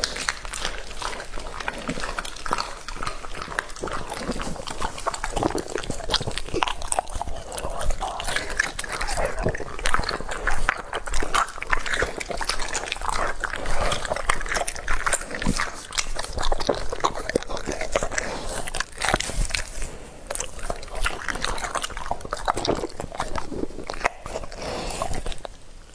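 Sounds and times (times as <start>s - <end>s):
dog chewing and lip smacking: 0.0s - 25.9s.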